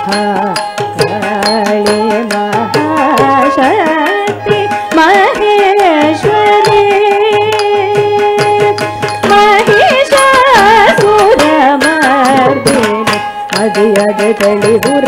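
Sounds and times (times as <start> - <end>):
mridangam drum strokes: 0.0 - 15.0
person singing: 0.0 - 15.0
violin melody with sliding ornaments: 0.0 - 15.0.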